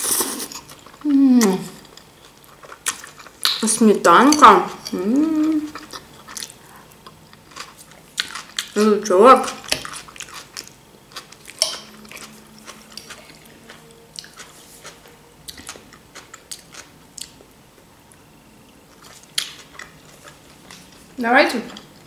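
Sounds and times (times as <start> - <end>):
chewing with crunches: 0.1 - 3.7, 4.3 - 8.8, 9.4 - 17.5, 18.9 - 22.0.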